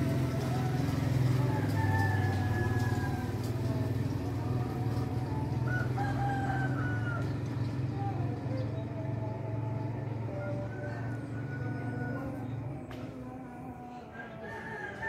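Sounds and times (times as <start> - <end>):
roosters crowing: 0.0 - 15.0.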